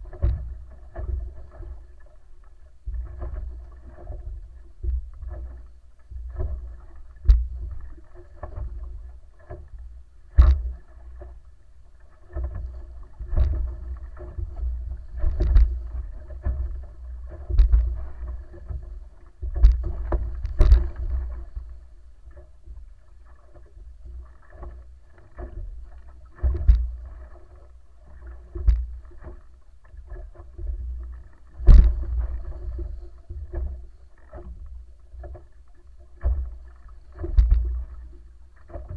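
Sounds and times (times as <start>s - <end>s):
faint steady hum: 0.0s - 38.9s
hull knocking and slapping waves: 0.0s - 38.9s
water rushing past a hull: 0.0s - 38.9s.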